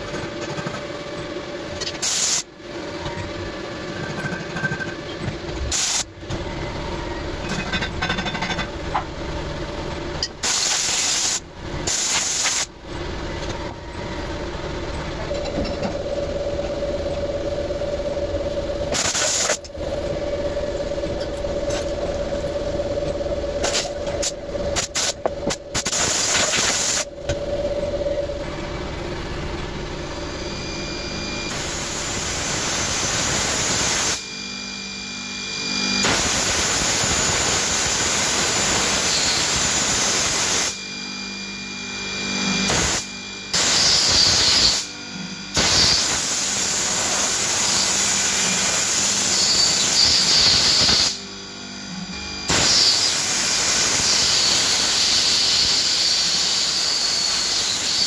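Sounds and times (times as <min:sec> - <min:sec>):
high machine whine: 0:00.0 - 0:58.0
machine hum with steady tones: 0:00.0 - 0:58.0.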